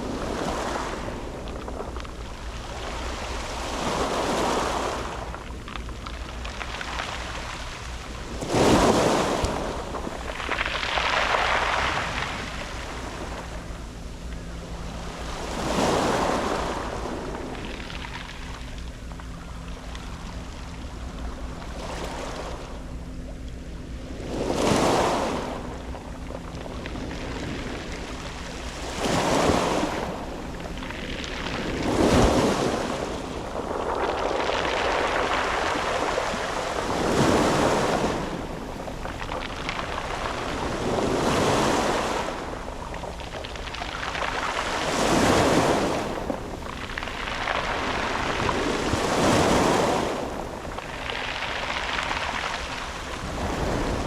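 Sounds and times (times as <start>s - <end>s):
sea waves breaking on pebbles: 0.0s - 23.2s, 23.8s - 54.0s.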